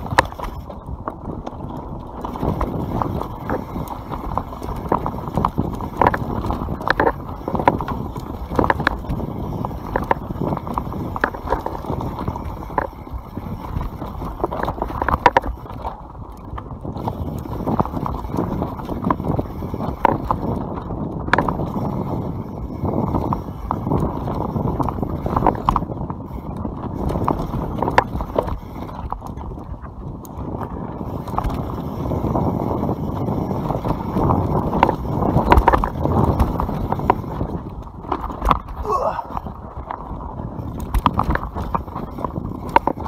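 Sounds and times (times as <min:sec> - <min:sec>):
bike frame rattling: 0:00.0 - 0:43.0
bike knocking on roots and rocks: 0:00.0 - 0:43.0
tyres rumbling on dirt: 0:00.0 - 0:43.0.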